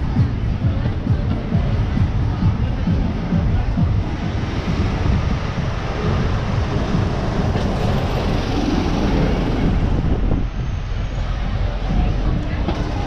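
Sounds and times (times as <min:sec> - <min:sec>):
bus engine and tyres: 0:00.0 - 0:13.0
rumble of passing vehicles: 0:00.0 - 0:13.0.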